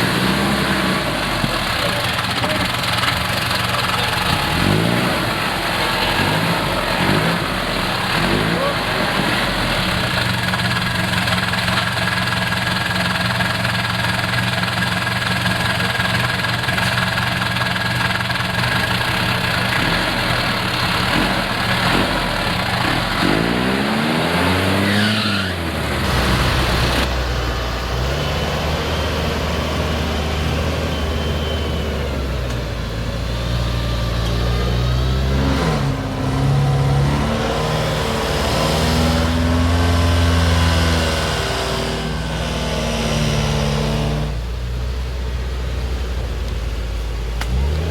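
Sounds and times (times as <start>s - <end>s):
off-road vehicle engine revving: 0.0s - 47.9s.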